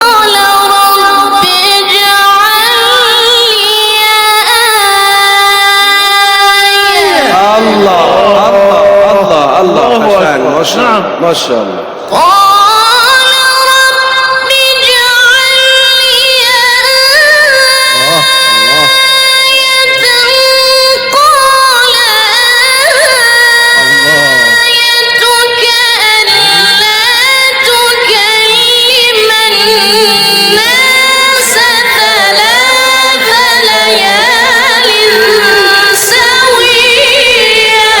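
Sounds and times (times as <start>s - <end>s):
person reciting in melodic chant: 0.0s - 38.0s.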